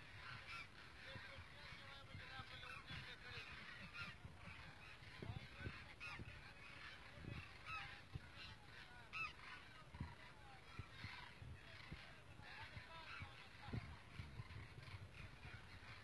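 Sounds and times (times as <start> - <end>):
flock of cranes croaking: 0.0 - 16.0.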